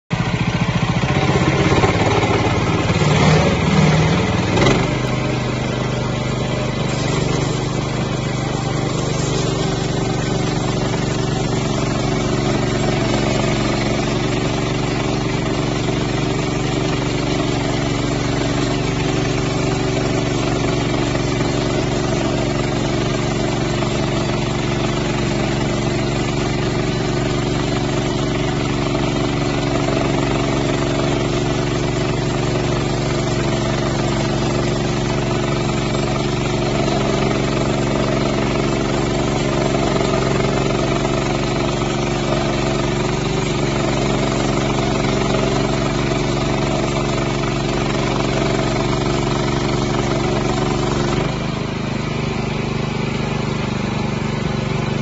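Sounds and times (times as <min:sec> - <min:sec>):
gasoline engine running: 0:00.1 - 0:55.0.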